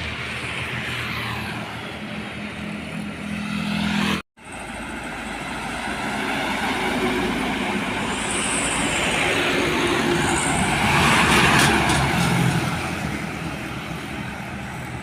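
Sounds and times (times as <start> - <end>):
diesel trucks passing: 0.0 - 15.0
tyre and road noise: 0.0 - 15.0.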